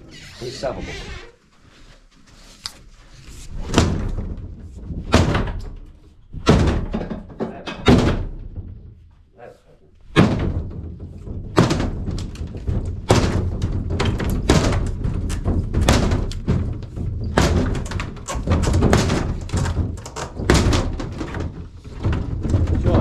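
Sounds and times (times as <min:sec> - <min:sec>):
heavy demolition knocks and bangs: 0:03.4 - 0:09.0, 0:10.0 - 0:23.0.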